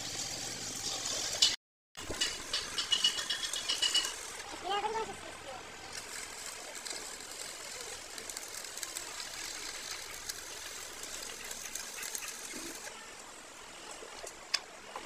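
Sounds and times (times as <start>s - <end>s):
welding arc crackling: 0.0s - 12.9s.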